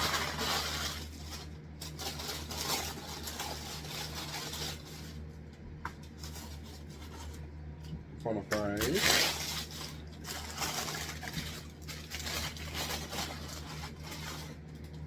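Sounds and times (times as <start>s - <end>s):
paper packaging crinkling: 0.0s - 15.0s.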